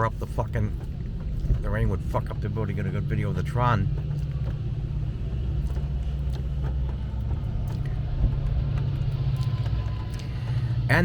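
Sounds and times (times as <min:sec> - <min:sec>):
vehicle rumble inside car: 0:00.0 - 0:11.0.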